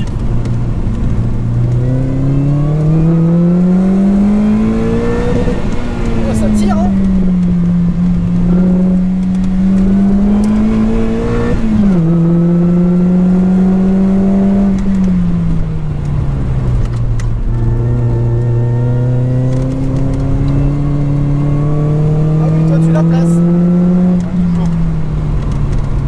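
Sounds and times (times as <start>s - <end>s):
car engine revving hard: 0.0s - 15.3s, 17.6s - 26.0s.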